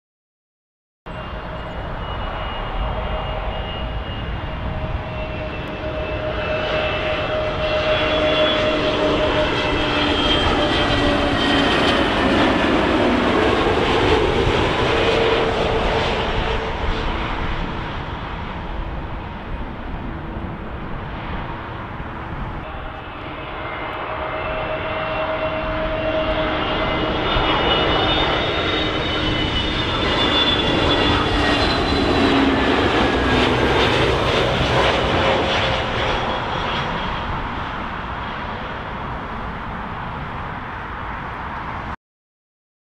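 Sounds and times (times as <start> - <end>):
jet airliner passing low: 1.1 - 42.0.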